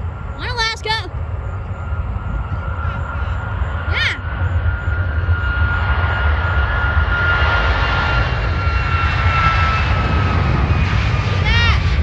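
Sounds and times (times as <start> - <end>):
jet engines roaring with whine: 0.0 - 12.0.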